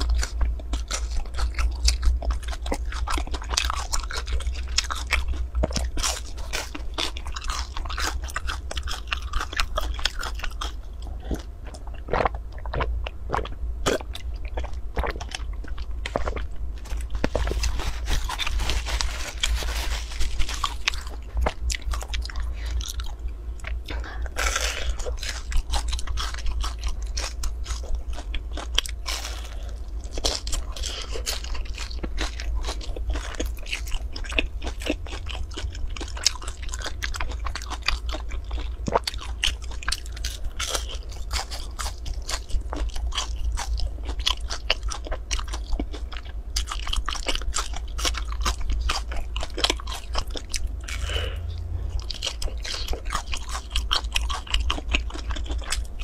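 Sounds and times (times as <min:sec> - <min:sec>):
person crunching pastry: 0:00.0 - 0:56.0
steady low hum: 0:00.0 - 0:56.0.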